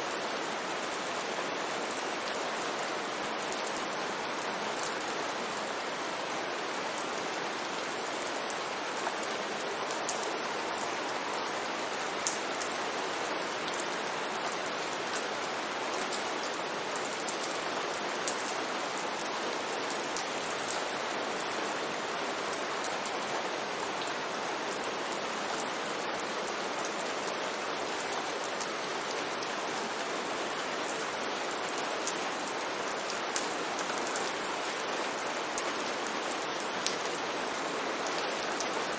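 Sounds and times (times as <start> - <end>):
steady rain on street: 0.0 - 38.9.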